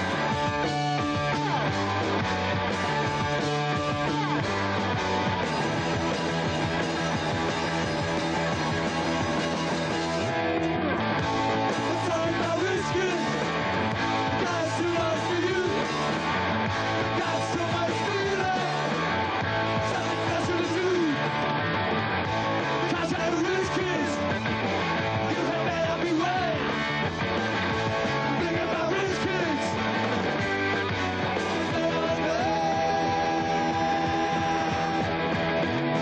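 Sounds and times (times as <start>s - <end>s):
rock band playing live: 0.0s - 36.0s.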